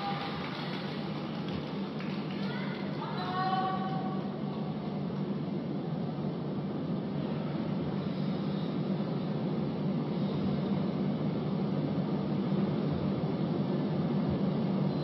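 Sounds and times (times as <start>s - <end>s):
ice rink hall hum and hiss: 0.0s - 15.0s.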